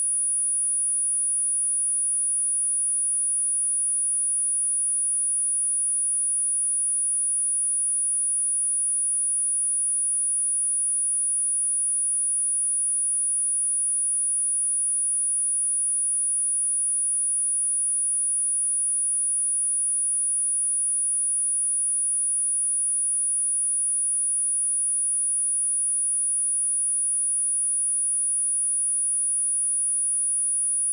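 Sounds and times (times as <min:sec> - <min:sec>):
high-pitched sine test tone: 0:00.0 - 0:30.9.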